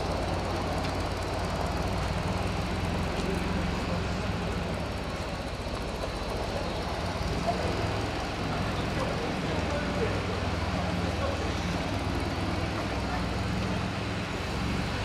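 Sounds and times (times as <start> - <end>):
piston engines droning: 0.0 - 15.0.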